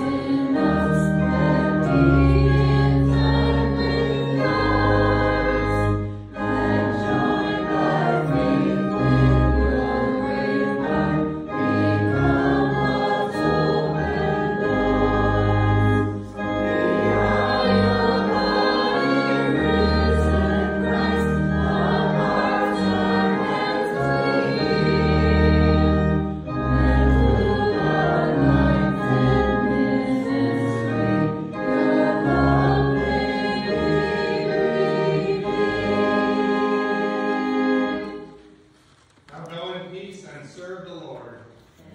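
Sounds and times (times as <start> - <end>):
organ chords: 0.0 - 38.7
voices singing a hymn: 0.0 - 38.7.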